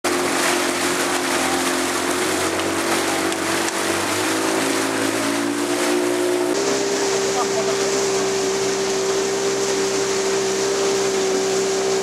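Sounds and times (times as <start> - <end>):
motorboat engine humming: 0.0 - 12.0
water rushing: 0.0 - 12.0
wind: 0.0 - 12.0.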